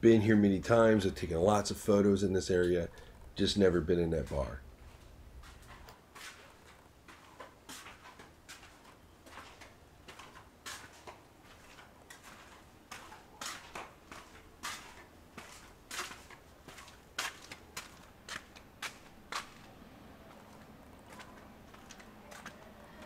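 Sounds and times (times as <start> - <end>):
faint low hum: 0.0 - 23.0
footsteps on pavement: 4.3 - 23.0.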